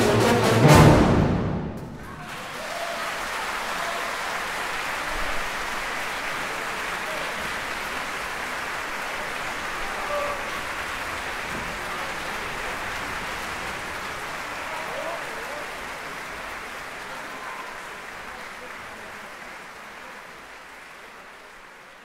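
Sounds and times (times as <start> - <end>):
audience applauding: 1.8 - 22.0.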